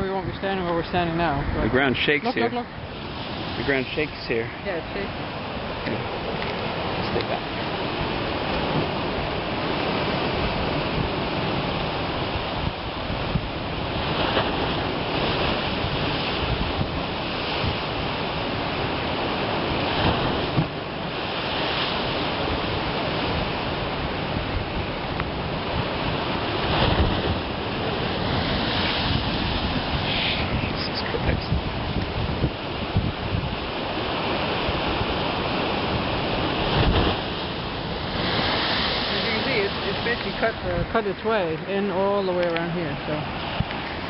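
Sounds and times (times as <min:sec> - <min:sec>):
surf breaking on shore: 0:00.0 - 0:44.0
wind buffeting microphone: 0:00.0 - 0:44.0.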